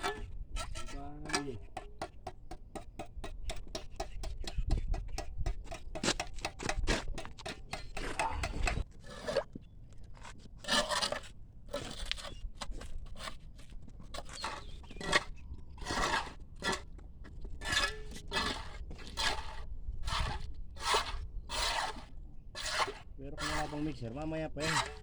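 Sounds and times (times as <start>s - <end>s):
hand tools scraping rough surface: 0.0s - 9.6s, 10.2s - 25.0s.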